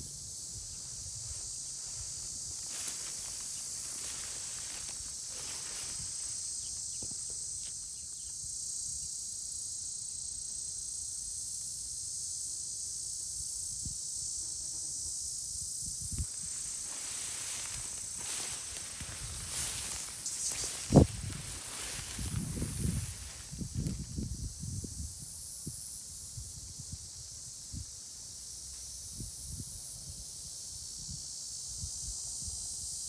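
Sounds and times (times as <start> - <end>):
insects chorus: 0.0 - 33.0.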